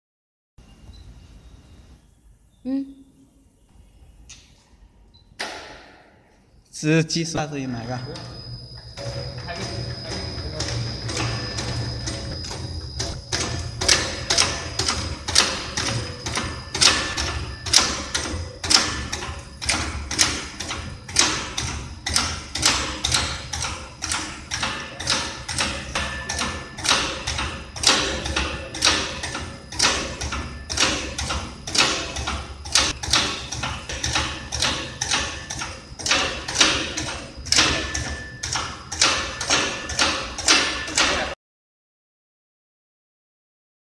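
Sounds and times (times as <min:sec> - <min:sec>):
machine humming: 0:00.6 - 0:41.4.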